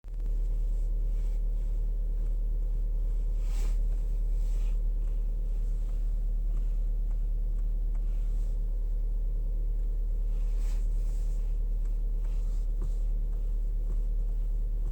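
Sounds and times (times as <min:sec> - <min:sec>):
car engine humming: 0:00.1 - 0:14.9.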